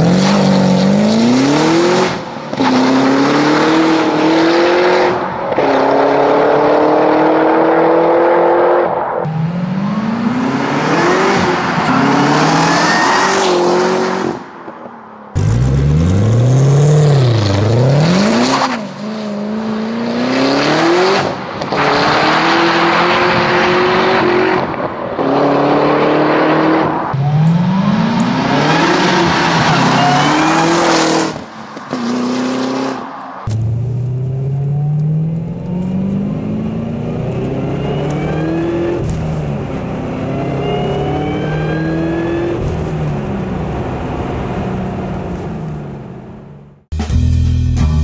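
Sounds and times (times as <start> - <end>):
car engine revving and accelerating: 0.0 - 14.4, 15.4 - 46.4.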